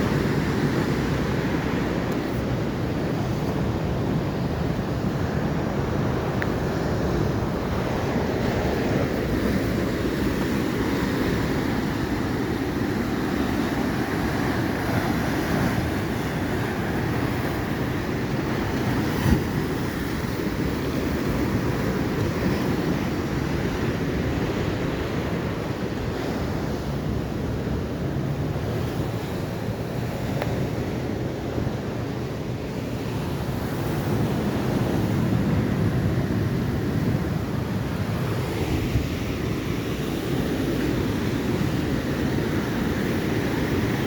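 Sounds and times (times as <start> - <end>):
ocean surf washing in: 0.0 - 44.0
wind rumbling on microphone: 0.0 - 44.0.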